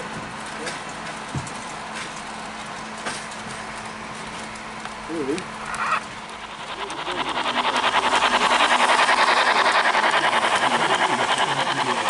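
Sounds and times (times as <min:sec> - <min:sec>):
model train wheels clicking: 0:00.0 - 0:12.0.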